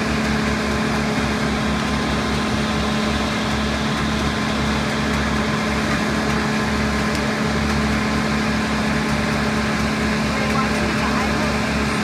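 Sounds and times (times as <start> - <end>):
constant hum: 0.0 - 12.0
wood chipper engine drone: 0.0 - 12.0.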